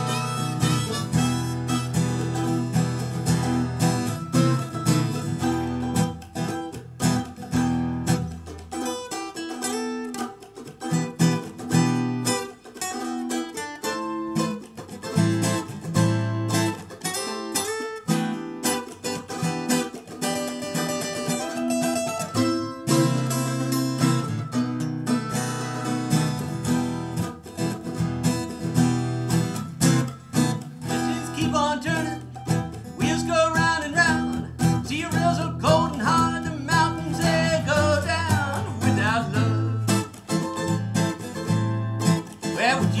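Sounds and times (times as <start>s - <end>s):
acoustic guitar: 0.0s - 43.0s
mandolin: 0.0s - 43.0s.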